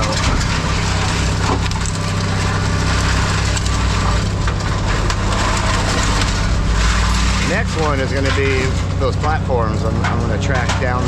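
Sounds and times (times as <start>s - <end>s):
machine engine hum: 0.0s - 11.0s
scrap metal crunching and scraping: 0.0s - 11.0s.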